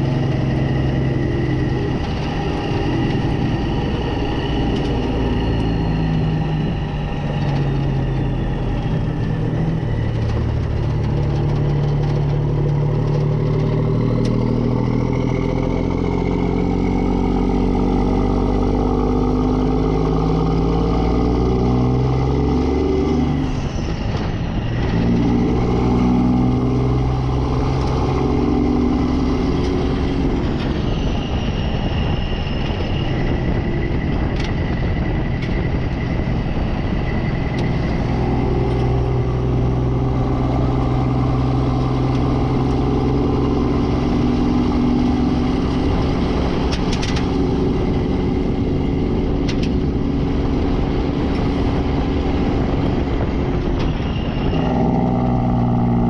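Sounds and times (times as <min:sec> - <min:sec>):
truck diesel engine driving: 0:00.0 - 0:56.0.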